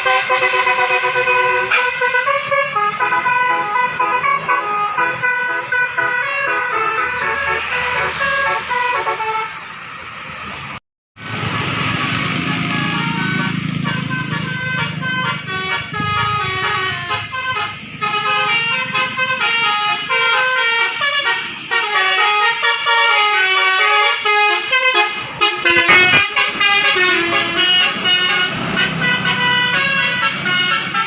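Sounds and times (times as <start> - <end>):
bus air horn melody: 0.0 - 9.6, 12.5 - 31.0.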